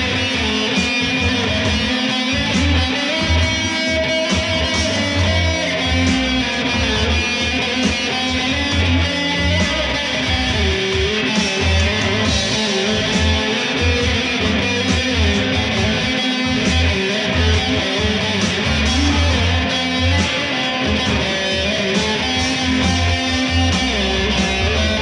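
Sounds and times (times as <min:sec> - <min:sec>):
low bass: 0:00.0 - 0:07.7, 0:08.3 - 0:21.8, 0:22.4 - 0:25.0
electric guitar strummed and picked: 0:00.0 - 0:25.0.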